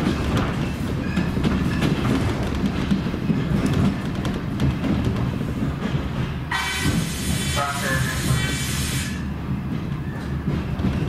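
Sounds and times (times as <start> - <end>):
train wheels clacking on rails: 0.0 - 11.0.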